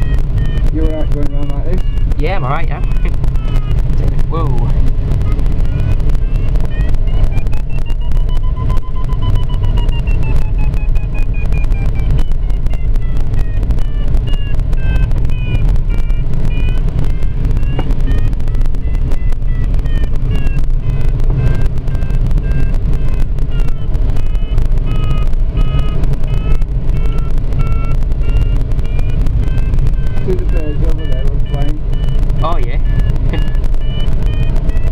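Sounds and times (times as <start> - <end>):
airflow buffeting microphone: 0.0 - 34.9
electronic tone falling in pitch: 0.0 - 34.9
short electronic beeps: 0.0 - 34.9.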